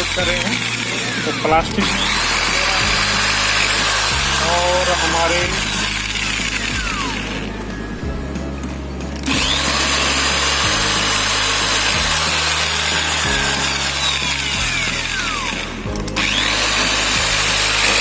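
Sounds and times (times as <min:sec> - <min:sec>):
electric drill boring: 0:00.0 - 0:07.9, 0:09.1 - 0:18.0
background music with low notes: 0:00.0 - 0:18.0.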